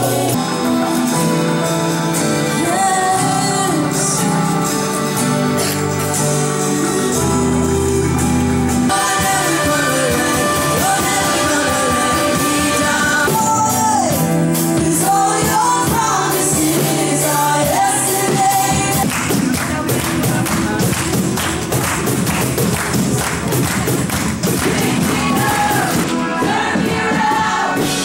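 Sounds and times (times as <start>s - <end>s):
person singing over a band: 0.0s - 7.9s, 8.9s - 20.9s, 24.6s - 28.0s.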